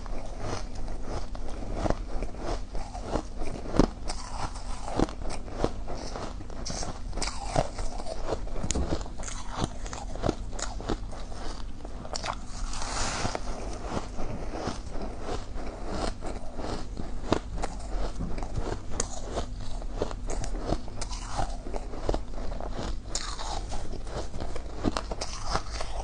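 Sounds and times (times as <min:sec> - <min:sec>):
crushed ice being chewed: 0:00.0 - 0:26.0.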